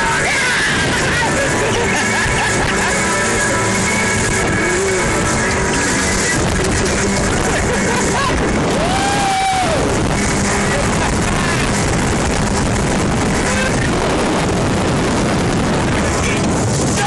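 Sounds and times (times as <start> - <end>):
low engine hum: 0.0 - 17.0
motorboat engine rush: 0.0 - 17.0.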